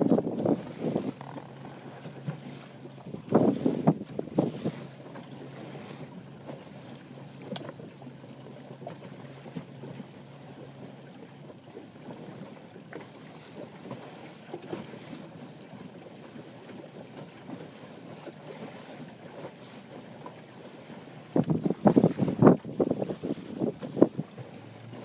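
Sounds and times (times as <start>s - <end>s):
water lapping against hull: 0.0s - 25.0s.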